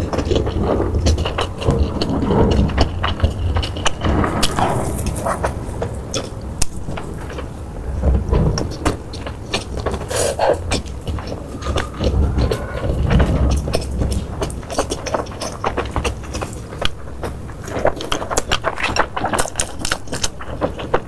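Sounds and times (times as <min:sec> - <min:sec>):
low rumble: 0:00.0 - 0:18.2
chewing with clicks and crunches: 0:00.0 - 0:21.0.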